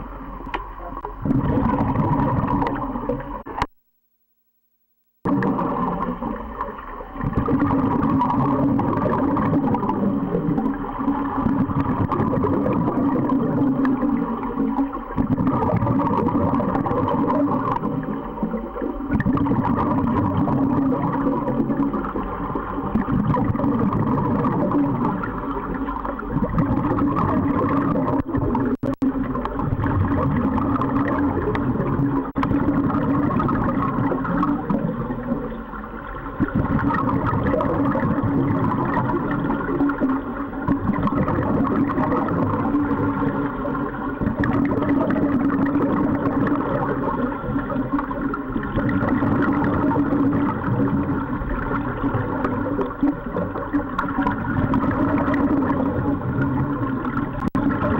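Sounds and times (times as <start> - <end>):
gurgling water: 0.0 - 3.7, 5.2 - 57.9
underwater rumble: 0.0 - 3.8, 5.2 - 57.9.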